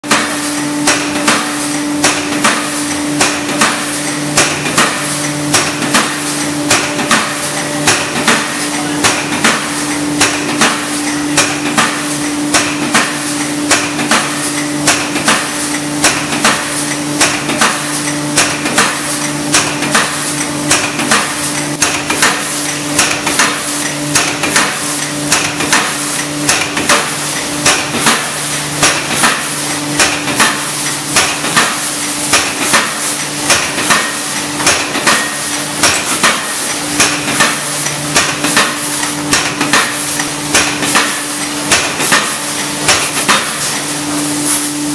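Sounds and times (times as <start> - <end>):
press stamping metallic clanks: 0.0 - 44.9.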